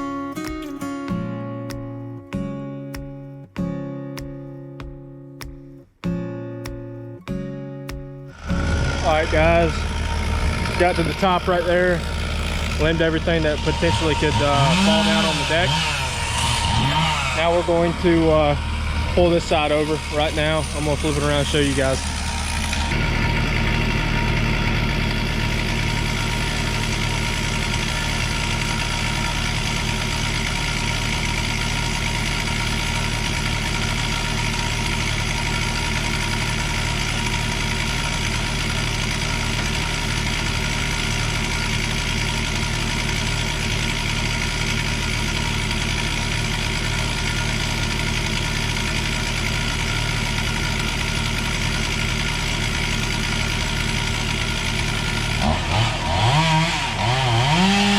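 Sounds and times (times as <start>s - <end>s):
diesel engine running steadily: 6.6s - 57.9s.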